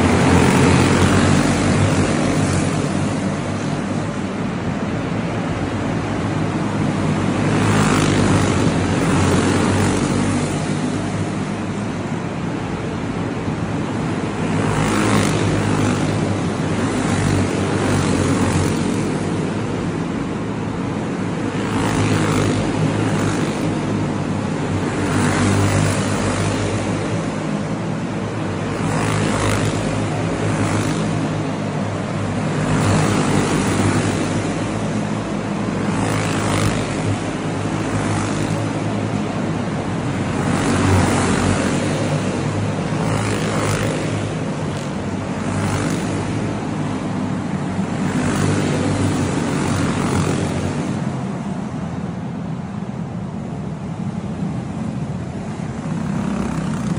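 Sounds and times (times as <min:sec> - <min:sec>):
racing kart engines passing: 0:00.0 - 0:56.9.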